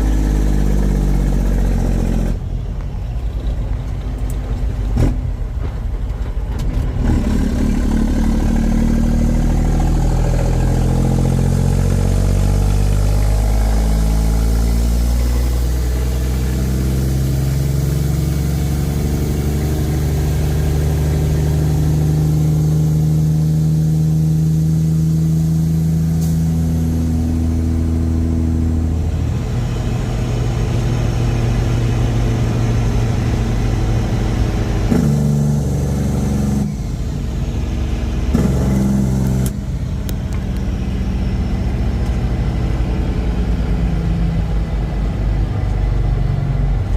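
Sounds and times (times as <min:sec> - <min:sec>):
diesel truck engine accelerating: 0:00.0 - 0:46.9.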